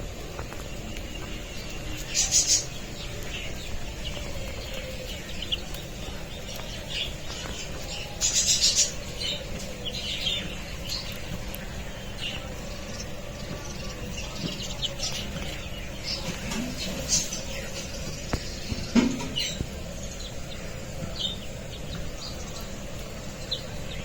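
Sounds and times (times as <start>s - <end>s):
chickens squawking: 0.0s - 23.9s
chickens calling: 0.0s - 24.0s.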